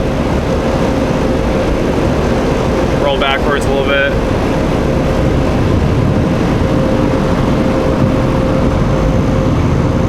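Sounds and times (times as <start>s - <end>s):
car wash dryer blowers: 0.0s - 10.0s.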